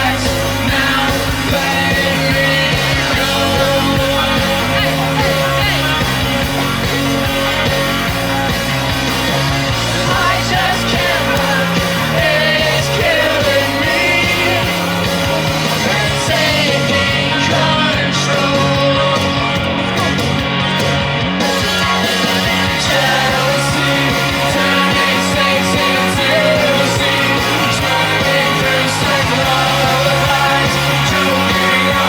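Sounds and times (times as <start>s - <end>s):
person singing: 0.0s - 7.2s, 9.8s - 20.3s, 21.4s - 32.0s
rock music: 0.0s - 32.0s.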